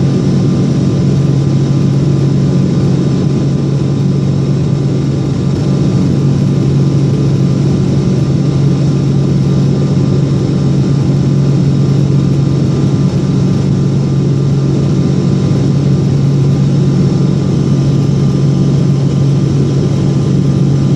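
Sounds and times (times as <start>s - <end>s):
jet engines roaring at takeoff: 0.0s - 20.9s.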